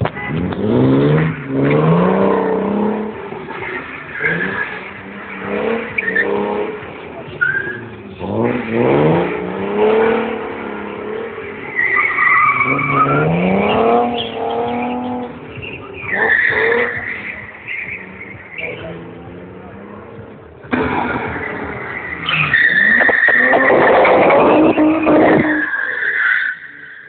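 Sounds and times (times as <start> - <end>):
car engine revving: 0.0 - 27.0
tyres squealing: 0.3 - 27.0.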